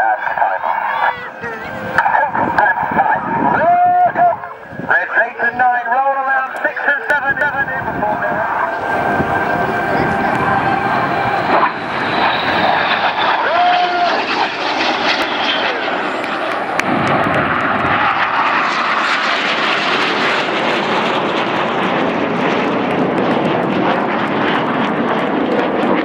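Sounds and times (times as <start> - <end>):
jet engines overhead: 0.0 - 26.0.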